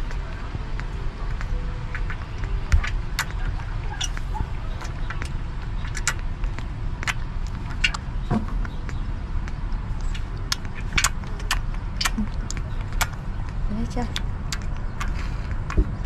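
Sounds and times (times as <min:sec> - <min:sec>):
monkey lapping wet clicks: 0:00.0 - 0:16.0
steady low rumble: 0:00.0 - 0:16.0.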